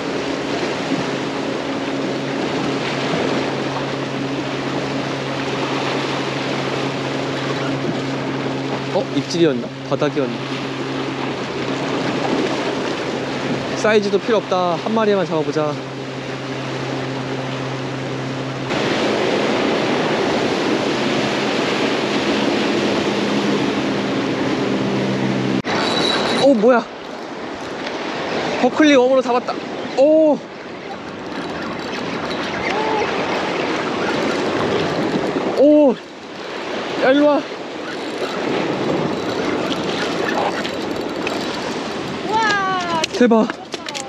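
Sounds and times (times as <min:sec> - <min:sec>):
motorboat engine humming: 0:00.0 - 0:44.0
waves: 0:00.0 - 0:44.0
wind and water hiss: 0:00.0 - 0:44.0.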